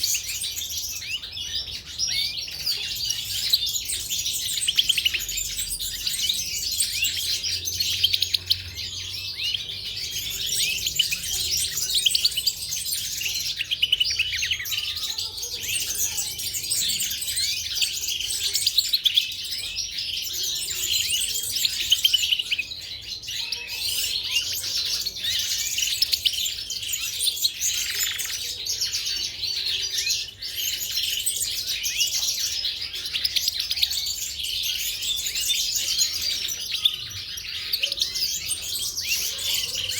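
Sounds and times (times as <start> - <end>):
caged birds chirping and twittering: 0.0 - 39.9.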